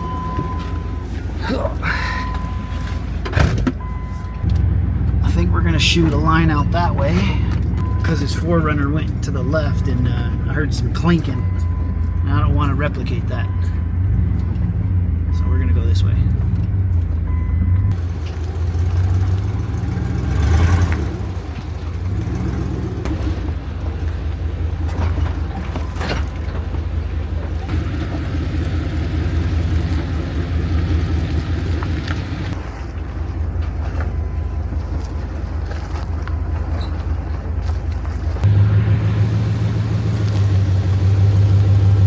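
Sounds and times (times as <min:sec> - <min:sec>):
truck engine rumble: 0:00.0 - 0:42.0.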